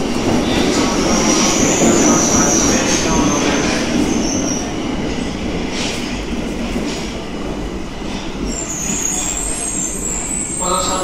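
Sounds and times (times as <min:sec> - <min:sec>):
subway train rumble: 0:00.0 - 0:11.0
subway wheels squealing: 0:00.2 - 0:06.2, 0:08.0 - 0:11.0.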